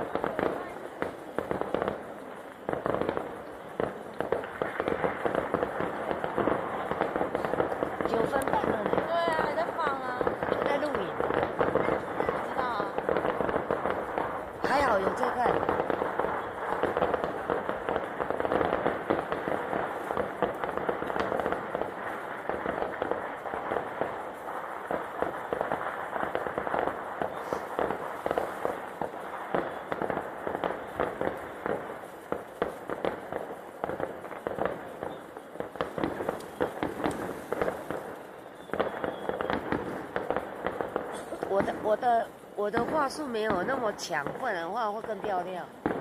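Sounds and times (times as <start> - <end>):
fireworks bangs and crackling pops: 0.0 - 46.0.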